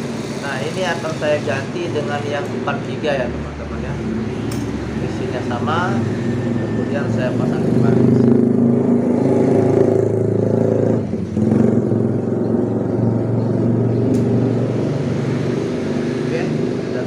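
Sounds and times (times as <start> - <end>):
motor running drone: 0.0 - 17.0.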